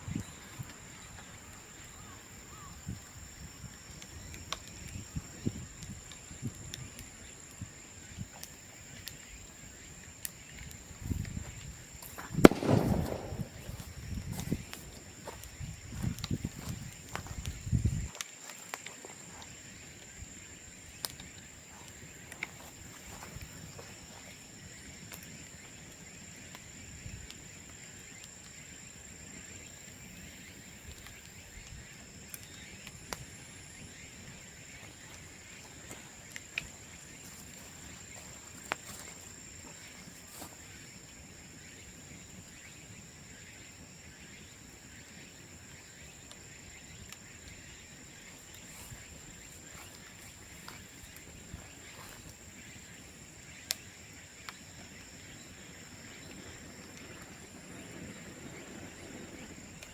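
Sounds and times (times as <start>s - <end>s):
bonfire crackling and popping: 0.0s - 59.9s
high insect drone: 0.0s - 59.9s.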